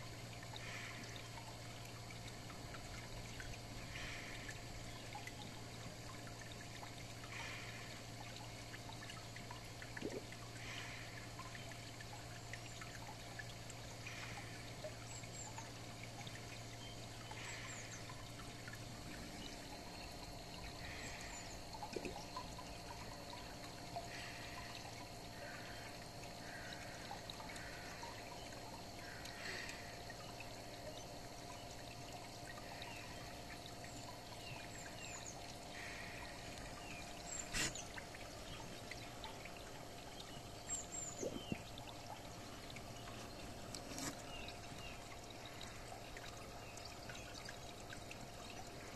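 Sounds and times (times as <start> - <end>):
water trickling and bubbling underwater: 0.0 - 48.9.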